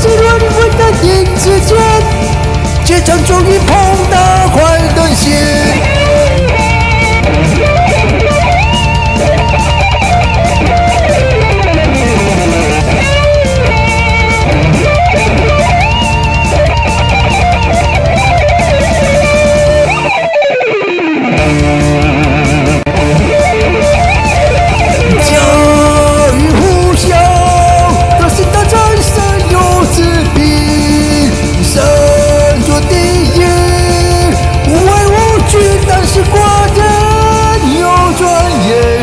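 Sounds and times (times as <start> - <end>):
bass and drums beat: 0.0 - 20.3, 21.4 - 39.0
electric guitar solo: 0.0 - 39.0.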